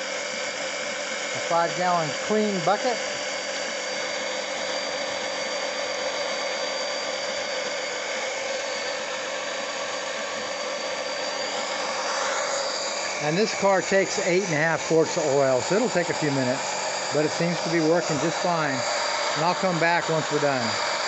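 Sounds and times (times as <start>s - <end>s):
electric pump motor whine: 0.0s - 21.0s.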